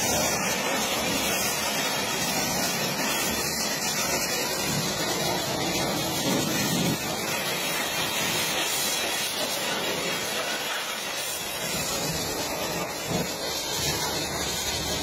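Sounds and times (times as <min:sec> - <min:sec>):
pressure washer spraying water: 0:00.0 - 0:15.0.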